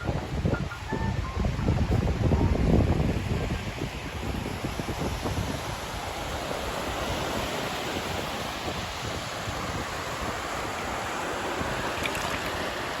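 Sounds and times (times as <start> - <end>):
sea surf washing in: 0.0 - 13.0
wind: 0.0 - 13.0.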